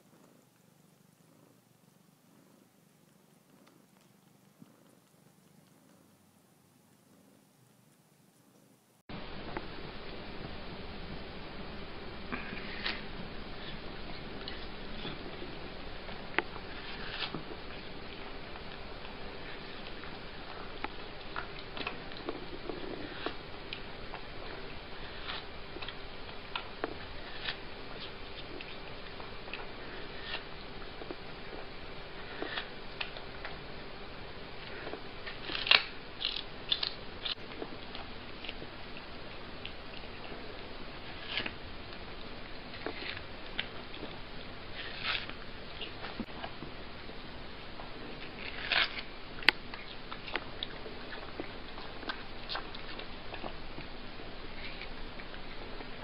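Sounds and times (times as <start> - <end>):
cat chewing watermelon: 0.0 - 8.8, 9.4 - 56.0
steady hiss: 0.0 - 56.0.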